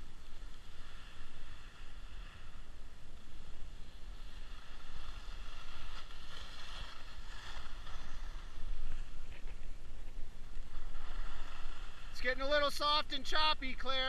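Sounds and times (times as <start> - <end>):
skis scraping over snow: 0.0 - 14.0.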